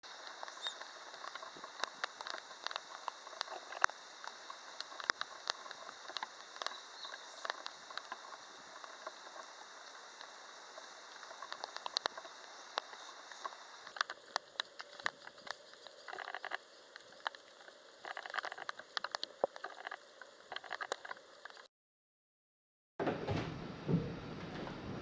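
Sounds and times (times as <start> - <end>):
rain pattering: 0.1 - 21.4.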